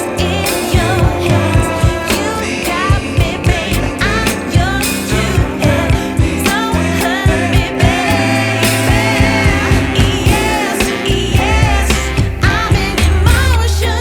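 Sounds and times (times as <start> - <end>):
song with singing over drums: 0.0 - 14.0.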